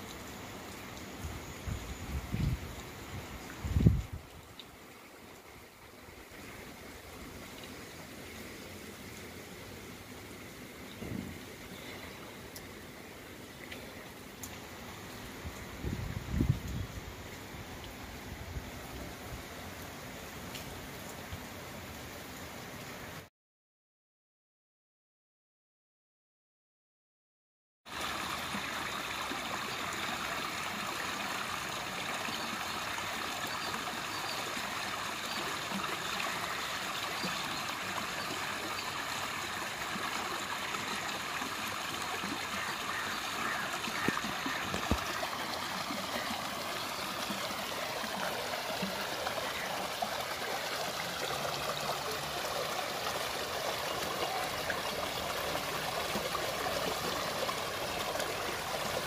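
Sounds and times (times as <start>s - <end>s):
floodwater rushing through drain: 0.0s - 23.2s, 27.9s - 59.0s.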